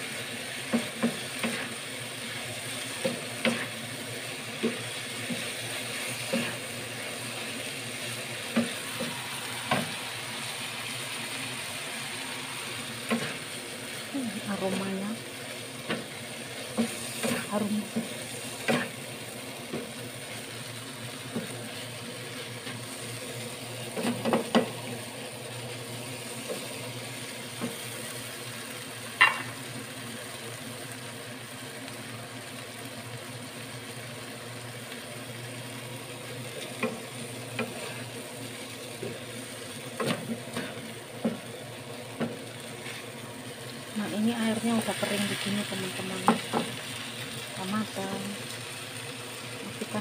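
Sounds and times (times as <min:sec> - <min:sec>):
food sizzling in a frying pan: 0:00.0 - 0:50.0.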